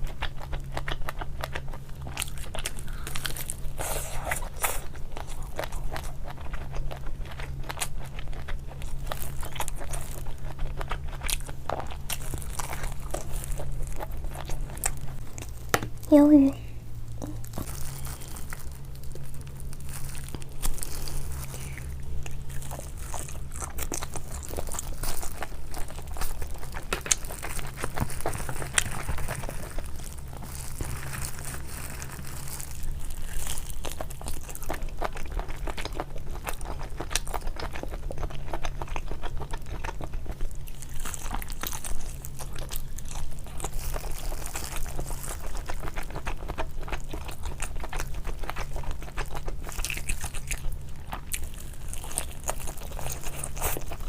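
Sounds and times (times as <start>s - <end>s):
chewing and crunching food: 0.0s - 54.0s
crinkling: 0.0s - 54.0s.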